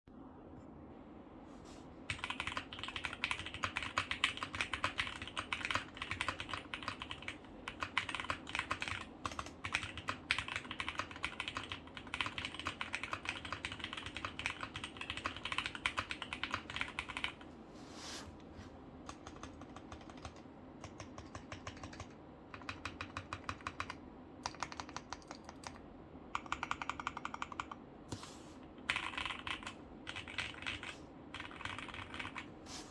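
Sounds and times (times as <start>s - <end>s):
mechanical keyboard typing: 2.1s - 17.4s, 19.1s - 27.8s, 28.8s - 32.5s.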